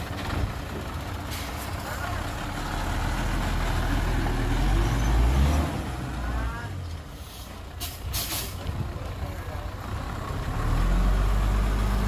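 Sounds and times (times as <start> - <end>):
heavy vehicle engine rumbling: 0.0 - 12.0.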